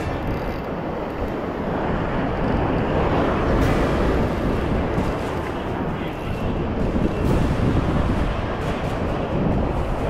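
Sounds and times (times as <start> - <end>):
wind blowing across microphone: 0.0 - 10.0.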